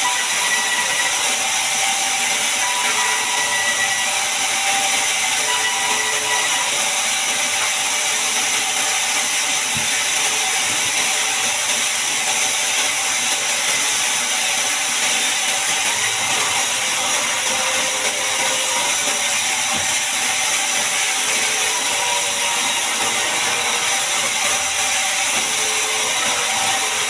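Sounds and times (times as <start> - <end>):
band saw cutting log: 0.0 - 27.0.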